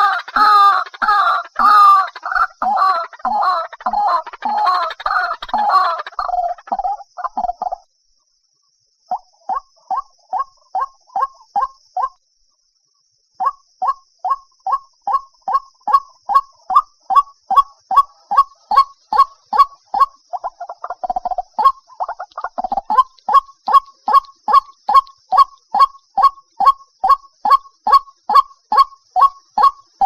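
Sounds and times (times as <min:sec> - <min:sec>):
bird croaking calls: 0:00.0 - 0:07.8, 0:13.4 - 0:30.0.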